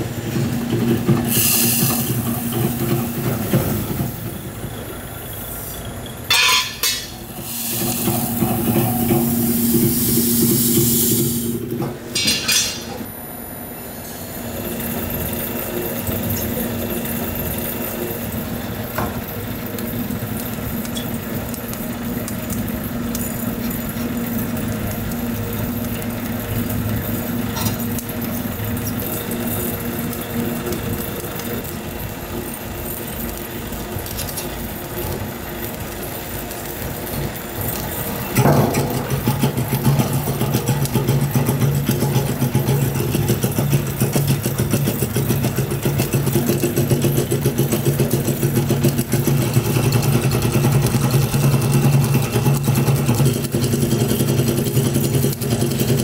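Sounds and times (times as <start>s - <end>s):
factory machinery humming: 0.0s - 56.0s
low-pitched machine hum: 0.0s - 56.0s.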